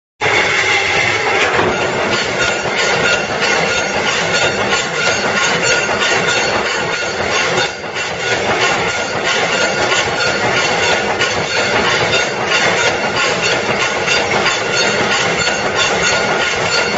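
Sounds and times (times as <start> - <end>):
punch press metallic clatter: 1.4 - 16.9.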